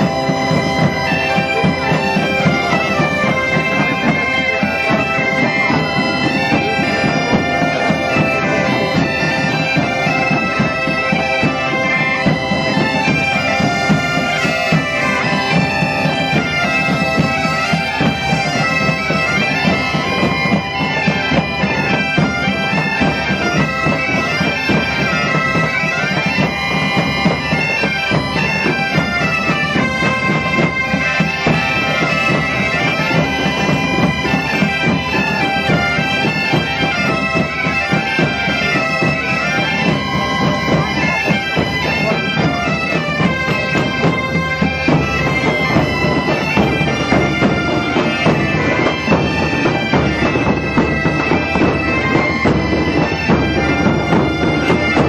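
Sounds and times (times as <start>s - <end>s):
bagpipes playing with drones: 0.0s - 55.0s
drum keeping time: 0.0s - 55.0s.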